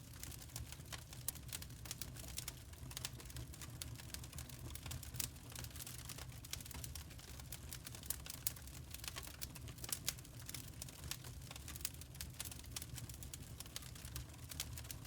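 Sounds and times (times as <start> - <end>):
low fire rumble: 0.0 - 15.0
wood fire popping and snapping: 0.0 - 15.0.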